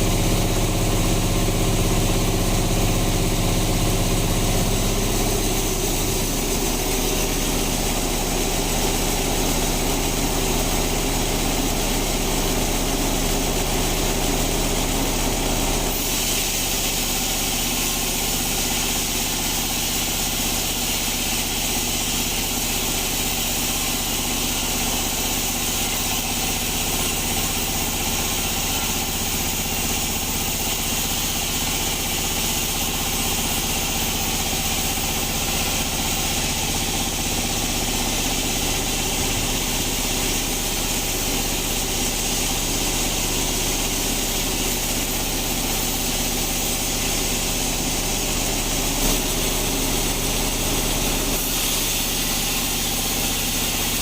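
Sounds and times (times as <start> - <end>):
bandsaw machinery drone: 0.0 - 54.0.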